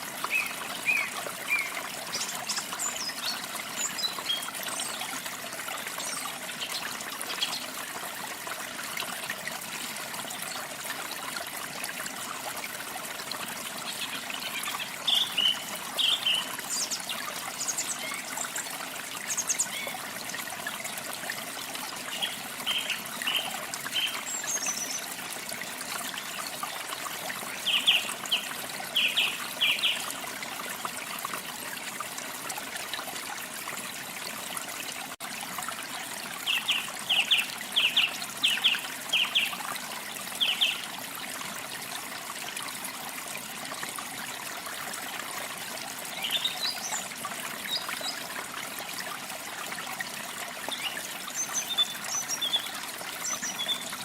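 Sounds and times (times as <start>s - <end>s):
water trickling: 0.0s - 54.0s.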